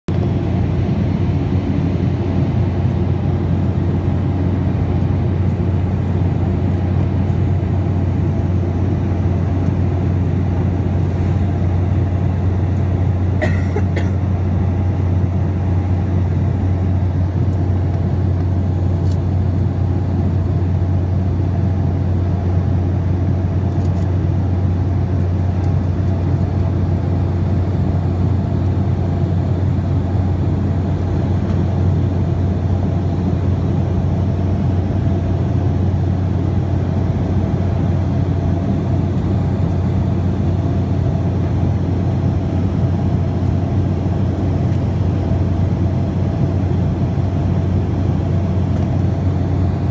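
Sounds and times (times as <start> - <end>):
jet engines droning in cabin: 0.1 - 49.9.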